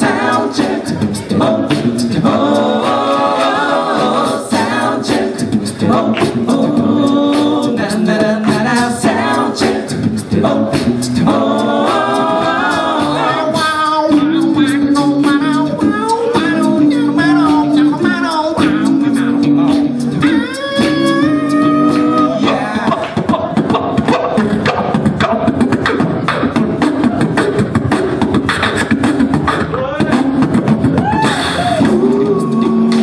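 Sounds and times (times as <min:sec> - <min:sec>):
beatboxing: 0:00.0 - 0:33.0
vocal group singing in harmony: 0:00.0 - 0:33.0.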